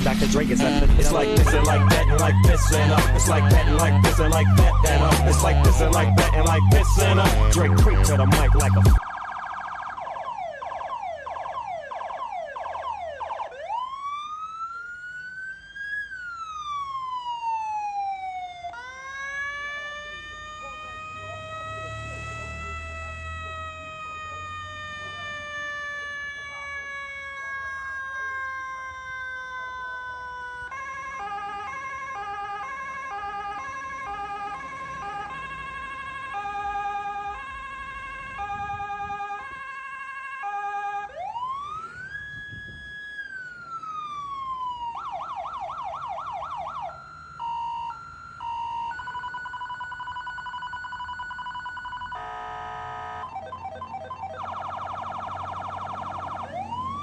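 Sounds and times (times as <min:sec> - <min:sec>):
electronic siren: 0:00.0 - 0:57.0.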